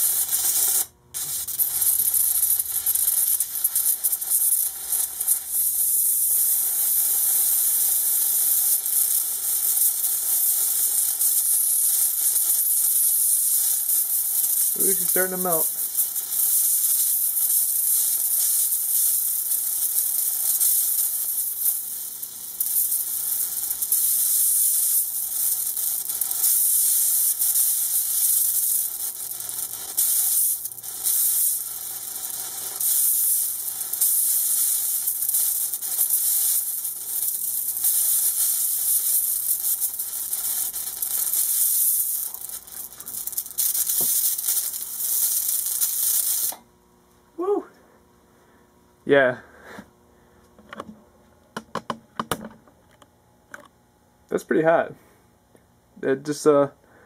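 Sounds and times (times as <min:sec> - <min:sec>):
electric arc hissing and crackling: 0:00.0 - 0:46.7.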